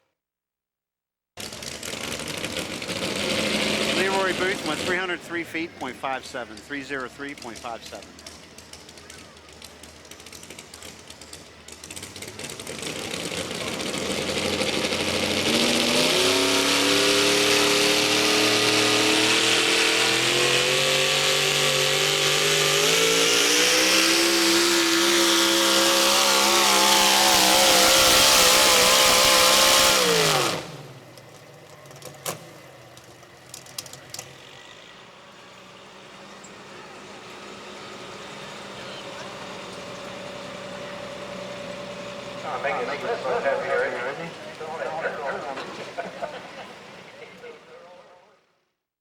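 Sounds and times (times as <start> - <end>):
truck engine at full throttle: 1.4 - 48.5.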